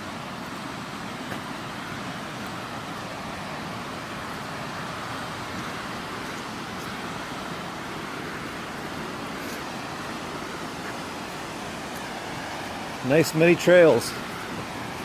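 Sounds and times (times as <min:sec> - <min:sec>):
creek and waterfall rushing: 0:00.0 - 0:15.0.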